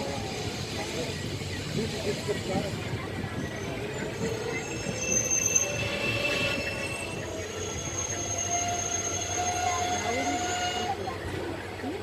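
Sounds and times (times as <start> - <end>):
rumble of running train coaches: 0.0 - 12.0
train wheels squealing on rails: 0.0 - 12.0.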